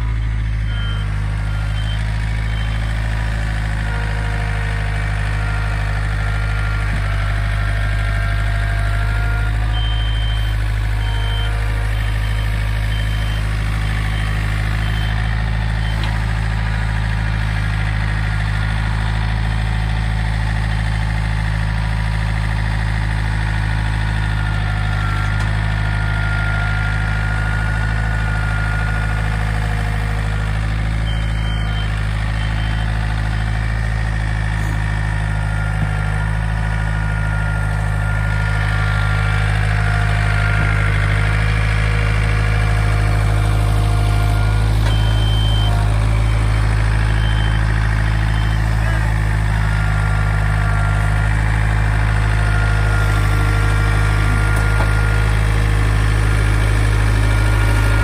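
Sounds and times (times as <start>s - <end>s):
backhoe engine idling: 0.0s - 58.0s.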